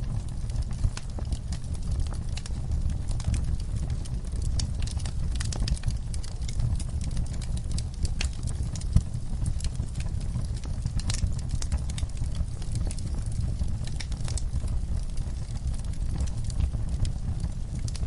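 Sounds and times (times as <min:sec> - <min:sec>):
fire crackles and pops: 0:00.0 - 0:18.0
fire flames rumbling: 0:00.0 - 0:18.0.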